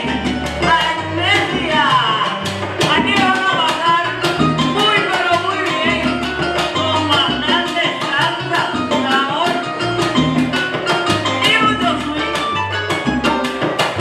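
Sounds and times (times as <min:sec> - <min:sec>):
hand drums and timbales: 0:00.0 - 0:14.0
salsa band playing: 0:00.0 - 0:14.0.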